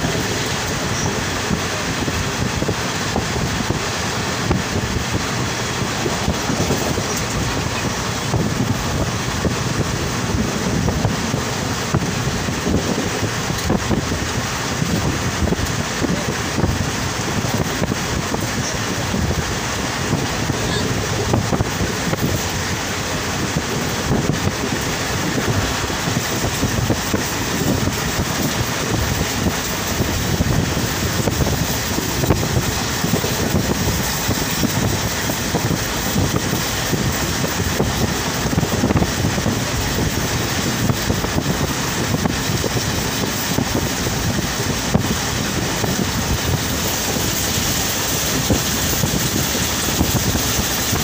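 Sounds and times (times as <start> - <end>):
train wheels on rails: 0.0 - 51.0
wind buffeting microphone: 0.0 - 51.0.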